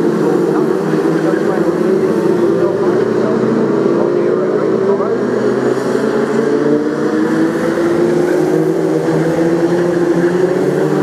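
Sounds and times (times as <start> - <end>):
racing car engines droning: 0.0 - 11.0.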